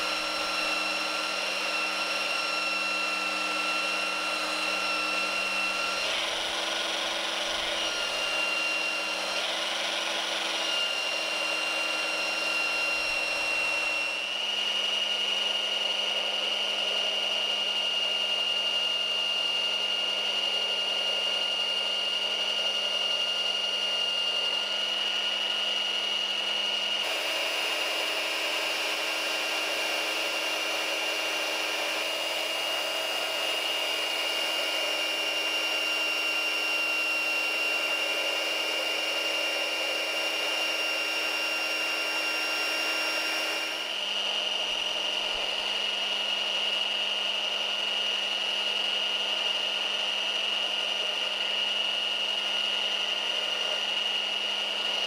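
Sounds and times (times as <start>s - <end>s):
belt sander whining: 0.0s - 55.0s.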